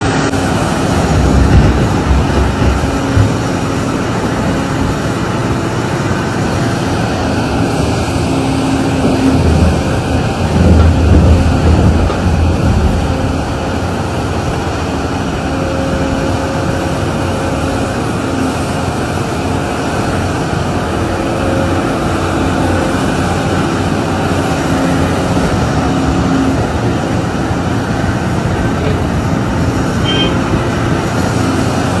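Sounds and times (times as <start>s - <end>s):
heavy machinery rumbling: 0.0s - 32.0s.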